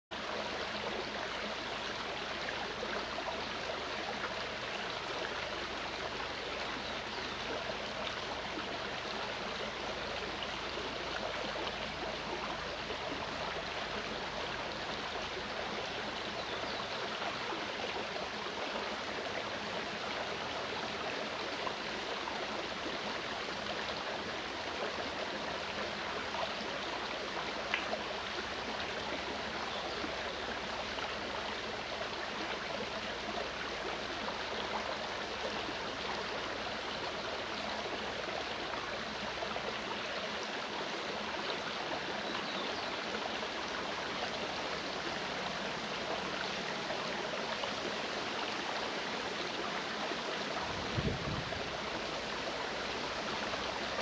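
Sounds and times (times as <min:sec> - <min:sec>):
stream rushing over rocks: 0:00.1 - 0:54.0.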